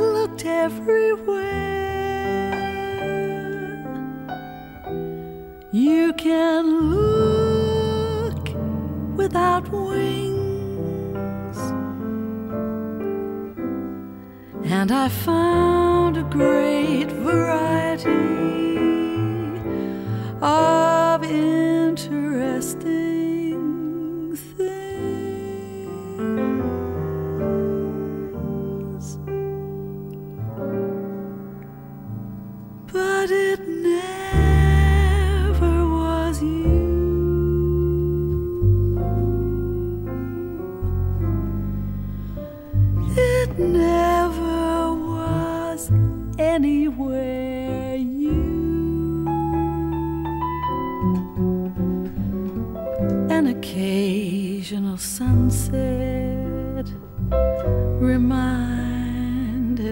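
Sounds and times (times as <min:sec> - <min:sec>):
piano playing slow chords: 0:00.0 - 0:59.9.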